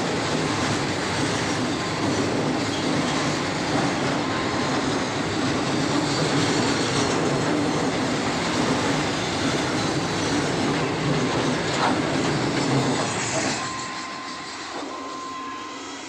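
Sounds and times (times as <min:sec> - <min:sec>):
freight wagons rolling on rails: 0:00.0 - 0:15.9.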